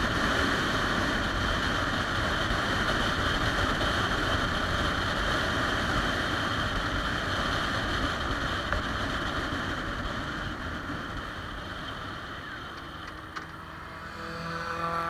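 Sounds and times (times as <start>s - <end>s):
wind rush: 0.0s - 14.2s
motorcycle engine drone: 0.0s - 15.0s.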